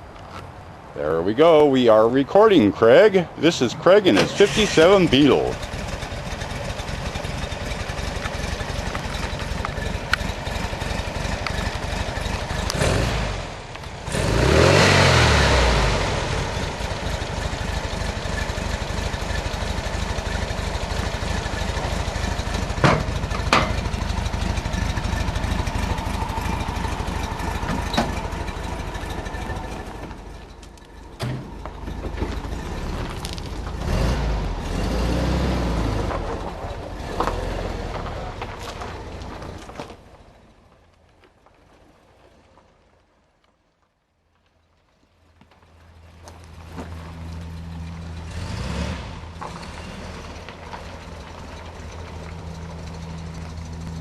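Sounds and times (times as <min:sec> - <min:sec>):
car engine running and revving: 0:03.7 - 0:40.0, 0:45.9 - 0:54.0.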